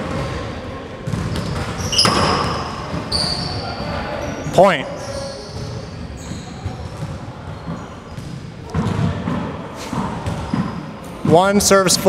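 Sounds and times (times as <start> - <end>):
sneakers squeaking on hardwood: 1.1 - 11.3.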